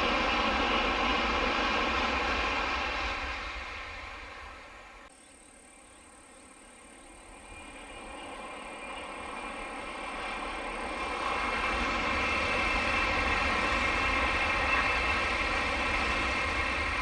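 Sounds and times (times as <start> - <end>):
high-speed train rushing past: 0.0 - 5.1, 6.1 - 17.0
steady high-pitched whine: 0.0 - 17.0.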